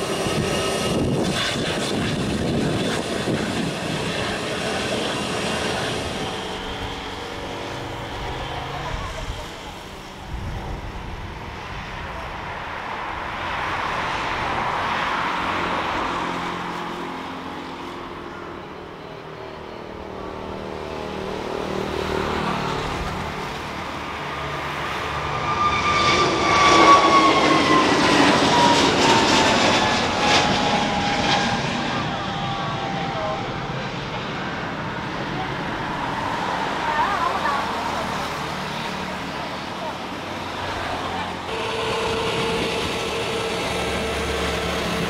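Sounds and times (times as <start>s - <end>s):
jet airliner taking off: 0.0s - 45.0s
jet engine whine: 0.0s - 45.0s.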